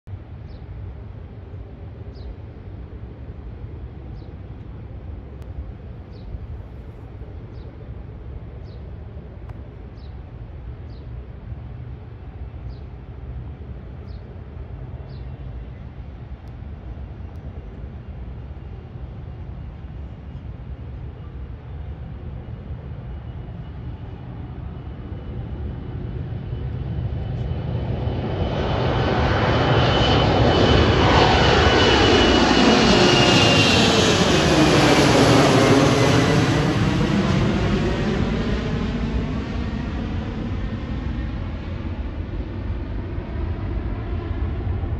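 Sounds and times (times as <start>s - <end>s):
jet engines roaring with whine: 0.1s - 44.9s.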